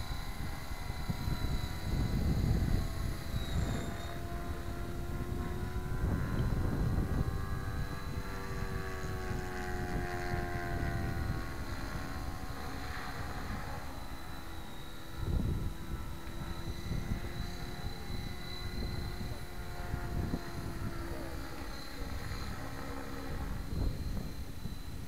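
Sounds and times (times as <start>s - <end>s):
rc helicopter rotor and motor whine: 0.0s - 25.0s
wind rumble on microphone: 0.0s - 25.0s.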